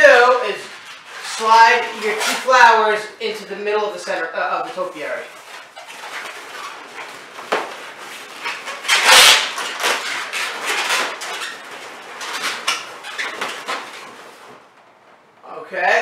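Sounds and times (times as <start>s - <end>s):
balloons rubbing together: 0.0s - 15.0s.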